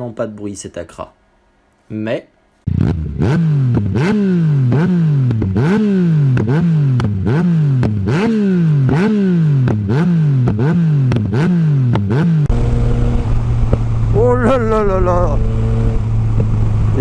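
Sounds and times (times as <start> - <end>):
motorcycle engine revving: 2.7 - 17.0.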